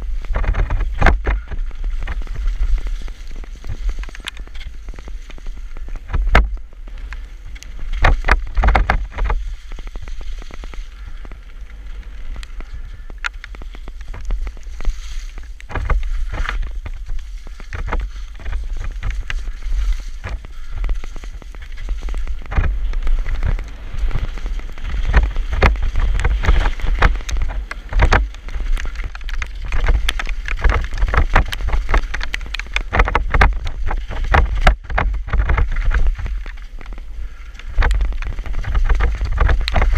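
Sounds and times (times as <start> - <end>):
bike knocking and rattling: 0.0 - 39.9
bike tyres on mud: 0.0 - 39.9
wind buffeting microphone: 0.0 - 39.9.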